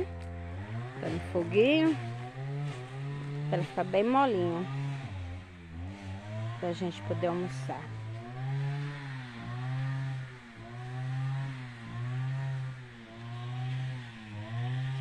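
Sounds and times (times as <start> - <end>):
brush cutter engine revving: 0.0 - 15.0.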